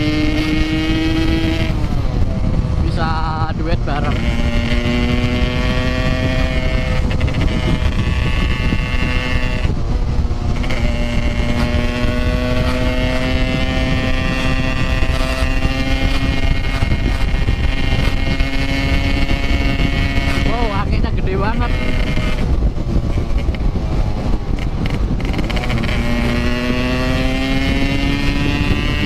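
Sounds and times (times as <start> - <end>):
motorcycle engine pulling hard: 0.0 - 29.0
wind rushing over microphone: 0.0 - 29.0.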